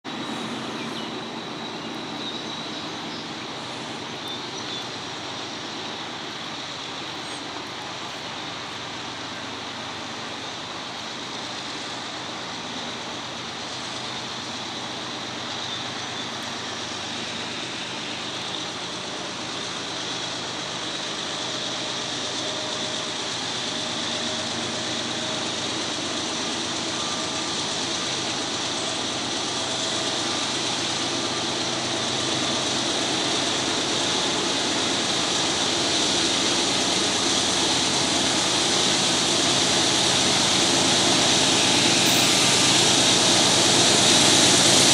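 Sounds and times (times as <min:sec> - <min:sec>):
diesel locomotive engine drone: 0:00.0 - 0:44.9
broad hiss: 0:00.1 - 0:44.9.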